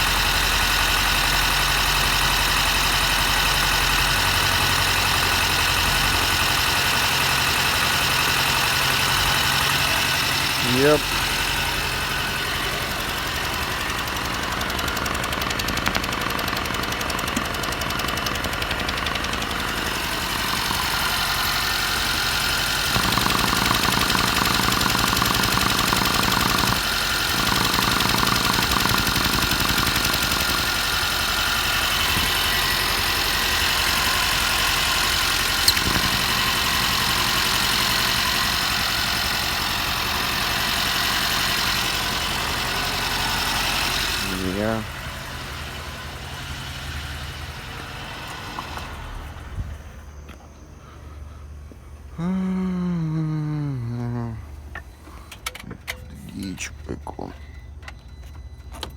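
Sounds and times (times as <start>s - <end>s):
engine idling unevenly: 0.0s - 58.9s.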